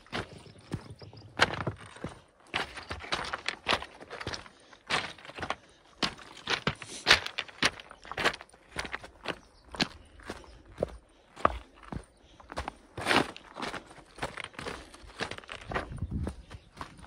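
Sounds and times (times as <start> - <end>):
footsteps on trail: 0.0 - 17.0.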